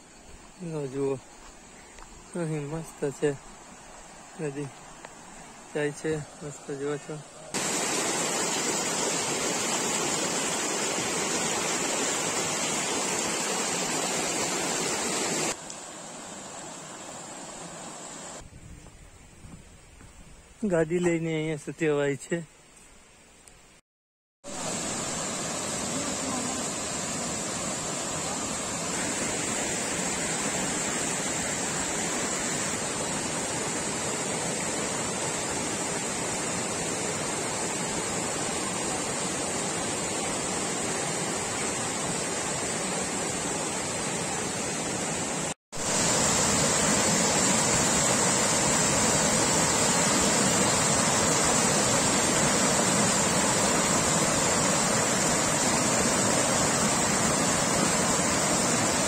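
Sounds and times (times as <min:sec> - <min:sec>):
river water rushing over rocks: 0:02.4 - 0:18.4, 0:24.5 - 0:59.0.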